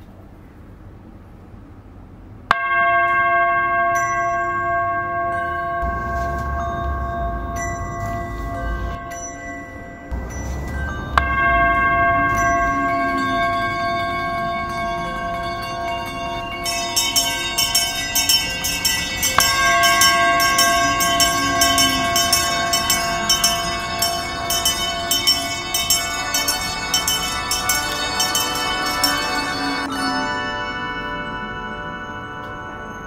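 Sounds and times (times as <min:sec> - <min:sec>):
singing bowl ringing: 0:02.5 - 0:33.0
hand bells ringing: 0:03.7 - 0:33.0.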